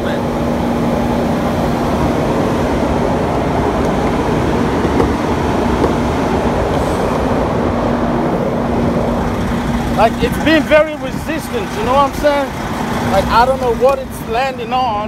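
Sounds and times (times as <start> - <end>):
diesel truck engines idling: 0.0 - 15.0.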